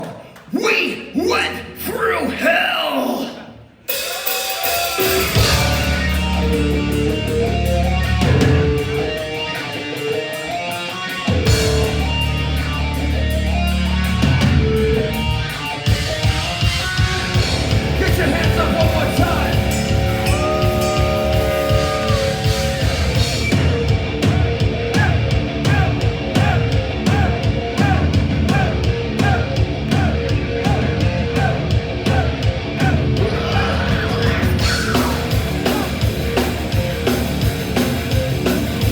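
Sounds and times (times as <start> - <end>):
drum kit: 3.8 - 38.9
distorted electric guitars: 3.9 - 38.9.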